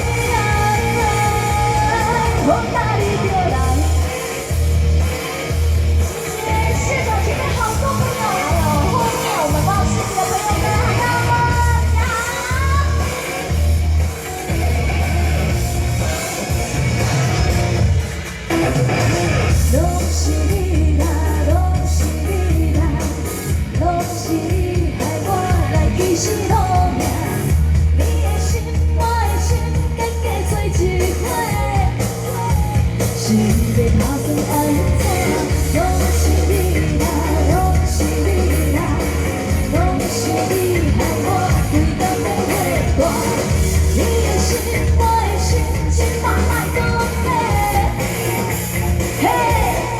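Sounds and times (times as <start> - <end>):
woman singing: 0.0 - 13.8, 19.6 - 49.9
live pop-rock band: 0.0 - 49.9
pulsing bass: 0.0 - 49.9.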